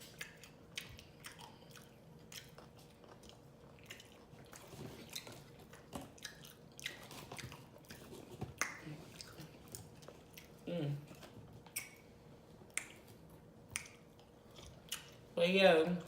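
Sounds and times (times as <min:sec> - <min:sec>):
person chewing with mouth smacking: 0:00.0 - 0:15.3.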